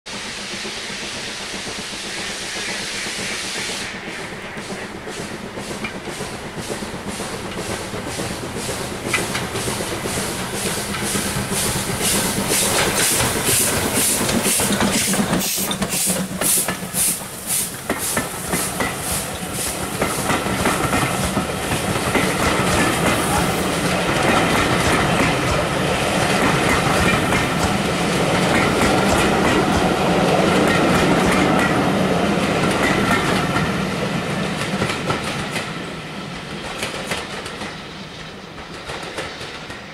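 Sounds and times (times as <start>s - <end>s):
steam hissing: 0.1s - 39.9s
steam locomotive exhaust beats: 0.1s - 39.9s
train wheels clattering over rail joints: 1.6s - 39.9s.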